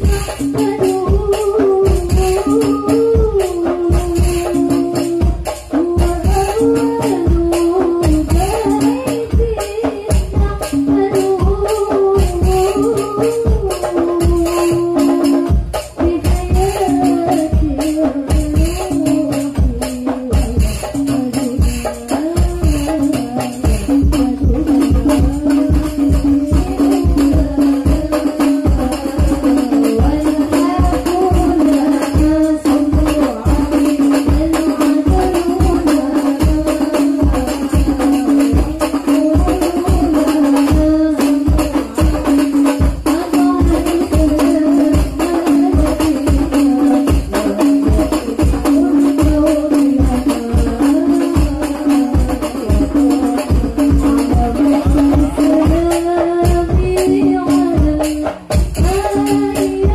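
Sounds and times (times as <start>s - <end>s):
frame drums and jingles: 0.0s - 59.9s
women singing into microphone: 0.0s - 59.9s.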